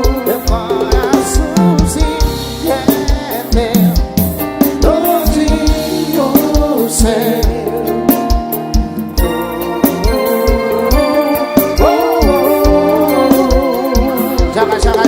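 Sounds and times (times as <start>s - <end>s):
band music: 0.0s - 15.0s
keyboard chords: 0.0s - 15.0s
lead melody: 0.0s - 15.0s.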